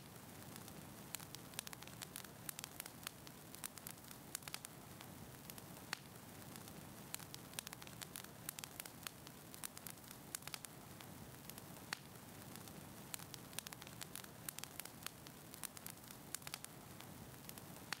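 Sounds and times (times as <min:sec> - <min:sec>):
faint steady hiss: 0:00.0 - 0:18.0
fire crackling and popping: 0:00.0 - 0:18.0.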